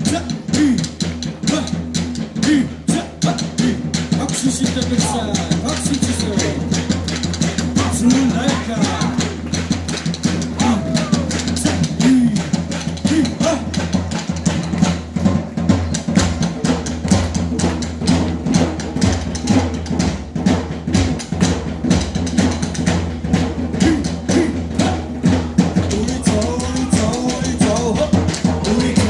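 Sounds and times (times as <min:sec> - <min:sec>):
drum-heavy music: 0:00.0 - 0:29.0.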